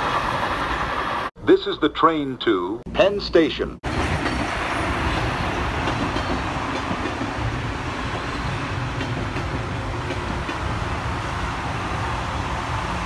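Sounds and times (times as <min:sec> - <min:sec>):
train wheels rumbling on rails: 0:00.0 - 0:01.3, 0:03.8 - 0:13.0.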